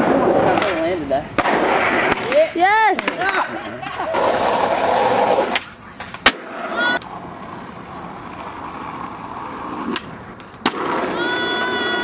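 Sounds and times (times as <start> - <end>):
skateboard clacking on ground: 0.0 - 12.0
skateboard clicks: 0.4 - 12.0.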